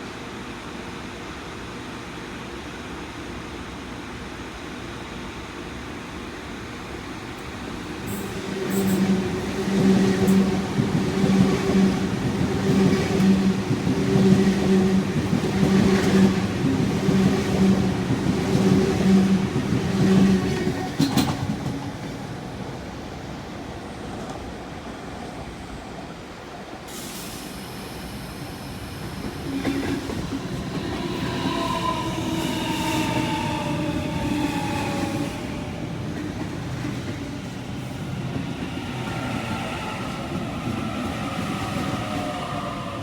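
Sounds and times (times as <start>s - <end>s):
train rumbling along tracks: 0.0s - 43.0s.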